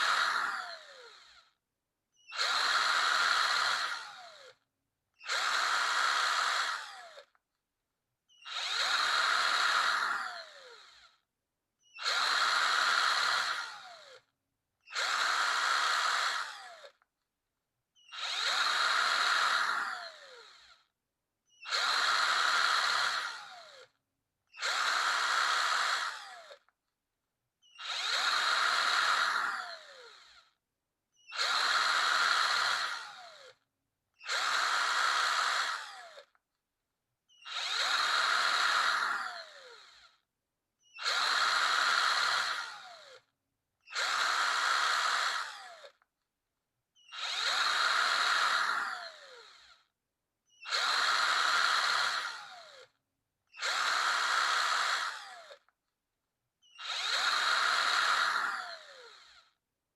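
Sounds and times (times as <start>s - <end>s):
power drill whirring: 0.0s - 4.6s, 5.2s - 7.4s, 8.3s - 17.1s, 18.0s - 20.9s, 21.5s - 26.8s, 27.6s - 36.4s, 37.3s - 46.1s, 47.0s - 49.9s, 50.5s - 55.8s, 56.6s - 59.6s.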